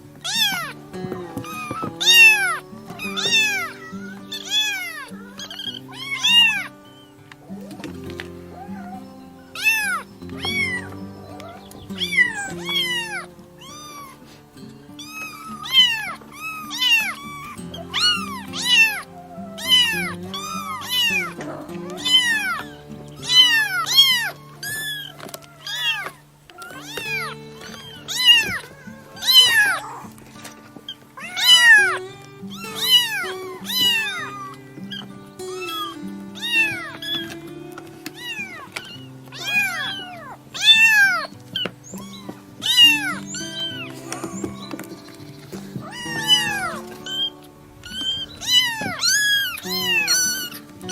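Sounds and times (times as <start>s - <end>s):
background music: 0.0s - 50.9s
kittens meowing: 0.0s - 50.9s.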